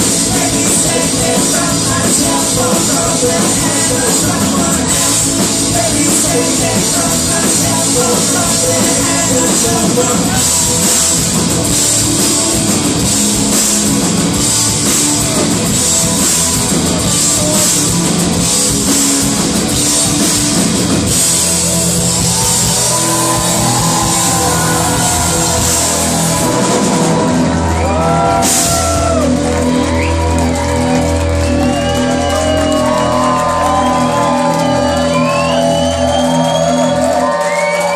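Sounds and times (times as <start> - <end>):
guitars sliding wavering notes: 0.0 - 37.9
rock band playing: 0.0 - 37.9.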